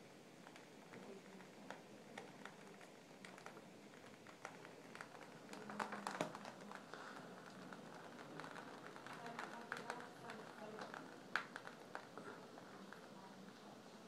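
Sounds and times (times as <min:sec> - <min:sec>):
faint rain pattering: 0:00.0 - 0:14.0.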